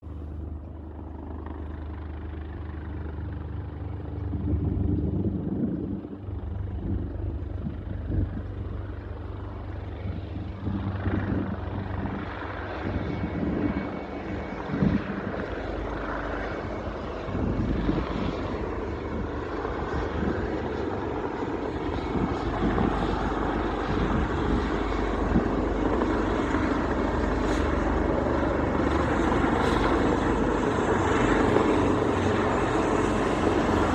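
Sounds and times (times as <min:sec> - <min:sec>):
helicopter rotors and engines: 0:00.0 - 0:33.9.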